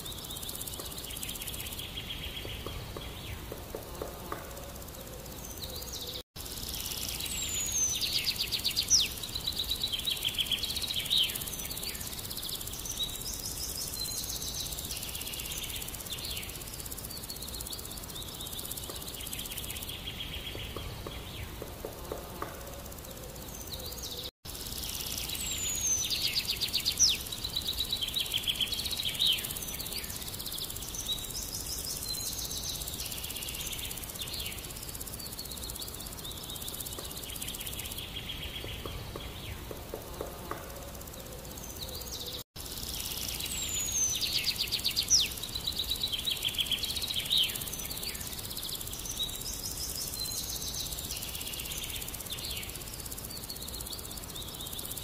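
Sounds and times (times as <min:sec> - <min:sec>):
insects hissing: 0:00.0 - 0:55.0
small birds chirping and trilling: 0:00.0 - 0:55.0.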